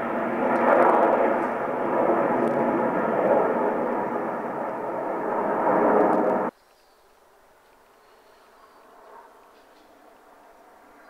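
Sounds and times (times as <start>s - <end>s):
jets roaring overhead: 0.0s - 6.6s, 7.2s - 11.0s.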